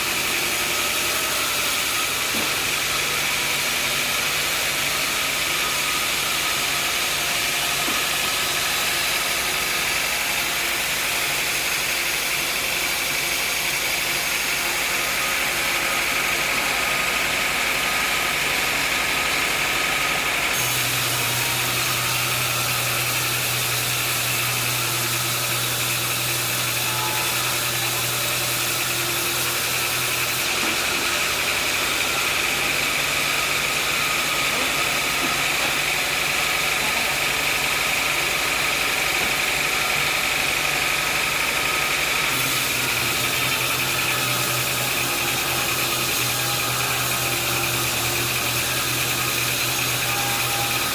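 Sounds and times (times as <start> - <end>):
sawmill machinery whine: 0.0 - 50.9.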